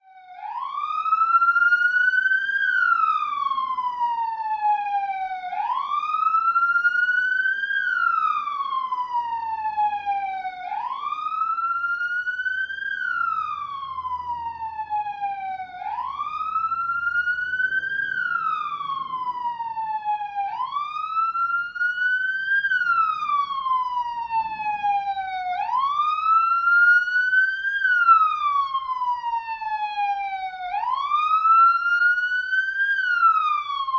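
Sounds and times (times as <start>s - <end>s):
police siren wailing: 0.0s - 33.9s.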